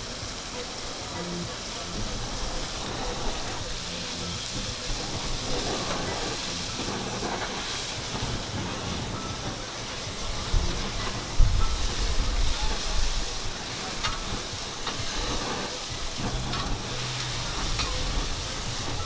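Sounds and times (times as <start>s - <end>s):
blowtorch hissing: 0.0s - 19.0s
low rumble of flames: 0.0s - 19.0s
meat sizzling on a griddle: 0.0s - 19.0s.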